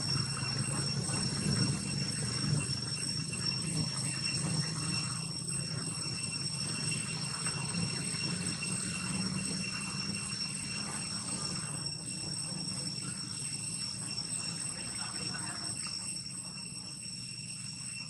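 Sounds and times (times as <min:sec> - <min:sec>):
high-pitched insect tone: 0:00.0 - 0:18.0.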